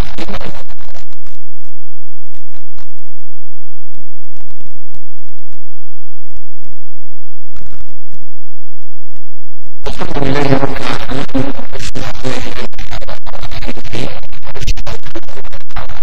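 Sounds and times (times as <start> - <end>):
crackling and clicking noise: 0.0 - 16.0.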